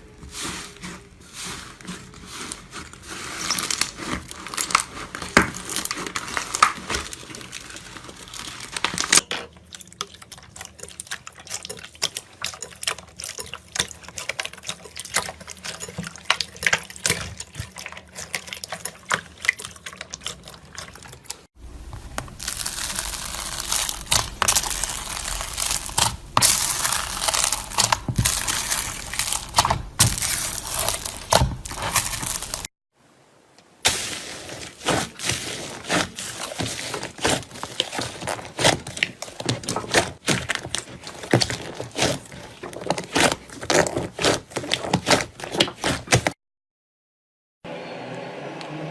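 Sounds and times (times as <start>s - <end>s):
slime squelching and clicking: 3.5s - 21.4s, 22.0s - 32.7s, 34.8s - 46.3s.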